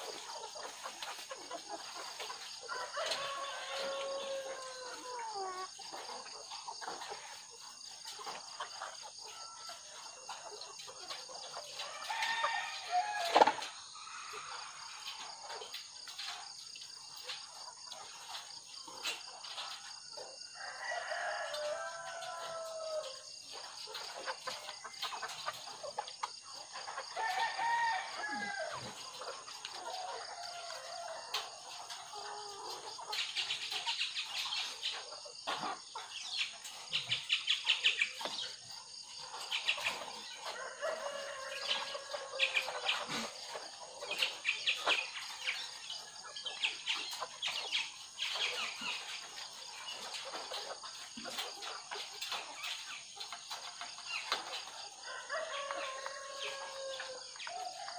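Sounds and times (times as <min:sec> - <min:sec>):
hens calling: 0:00.0 - 0:57.9.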